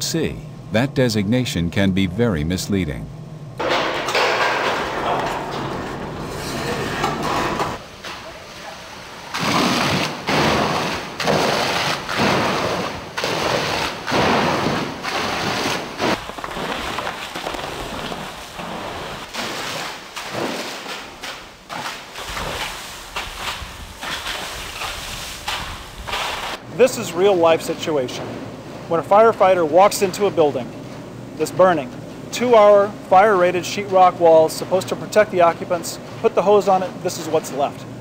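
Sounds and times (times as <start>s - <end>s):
fire hose spraying wall: 3.6s - 37.7s.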